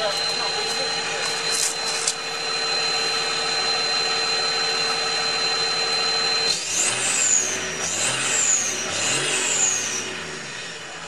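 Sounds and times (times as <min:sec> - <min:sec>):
diesel engine idling and revving: 0:00.0 - 0:11.0
steady high whine: 0:00.0 - 0:11.0.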